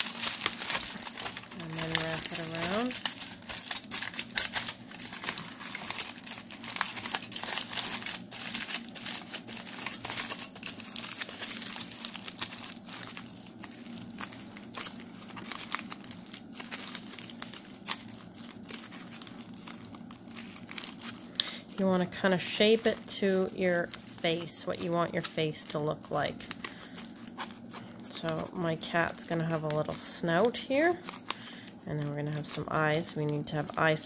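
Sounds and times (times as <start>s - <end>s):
aluminium foil crinkling: 0.0s - 34.0s.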